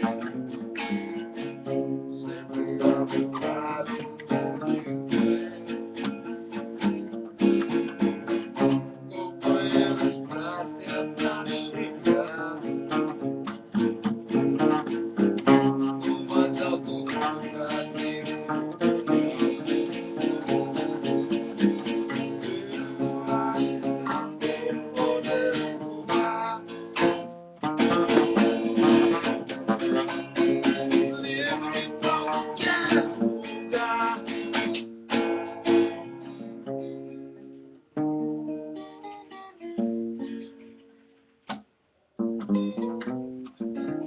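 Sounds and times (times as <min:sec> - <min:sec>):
acoustic bass plucked notes: 0:00.0 - 0:38.8, 0:42.2 - 0:44.0
acoustic guitar strumming: 0:00.0 - 0:44.0.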